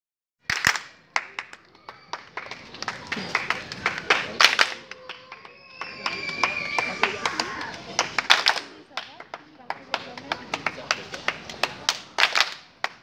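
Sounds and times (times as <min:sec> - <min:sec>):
group hand clapping: 0:00.4 - 0:13.0.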